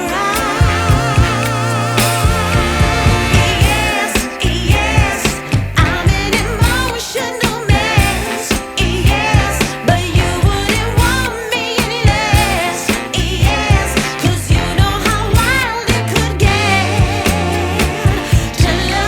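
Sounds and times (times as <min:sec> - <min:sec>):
person singing: 0:00.0 - 0:19.0
song with steady beat: 0:00.0 - 0:19.0.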